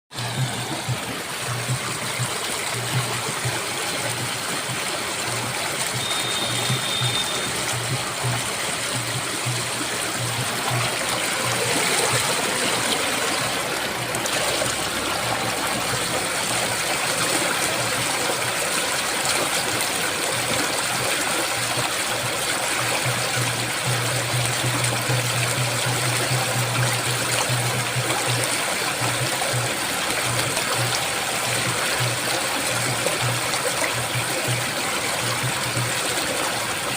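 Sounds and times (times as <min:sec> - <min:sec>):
flowing water rushing: 0:00.1 - 0:36.9.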